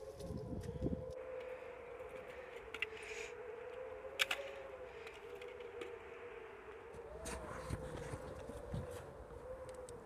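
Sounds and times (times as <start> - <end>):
wavering siren-like drone: 0.0 - 10.0.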